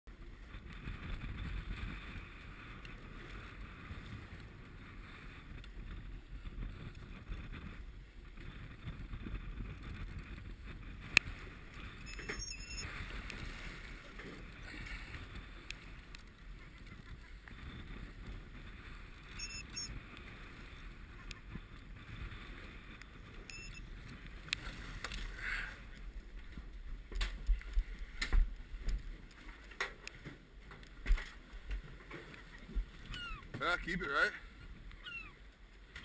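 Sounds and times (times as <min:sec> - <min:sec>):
choppy water: 0:00.1 - 0:36.0
wind: 0:00.1 - 0:36.0.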